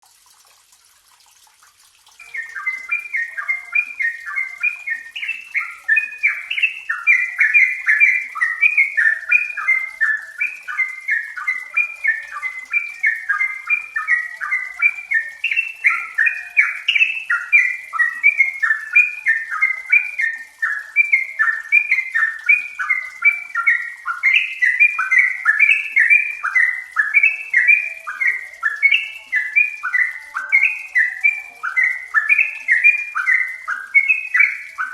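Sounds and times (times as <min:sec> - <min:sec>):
bulbul singing bubbly notes: 0:02.0 - 0:34.9.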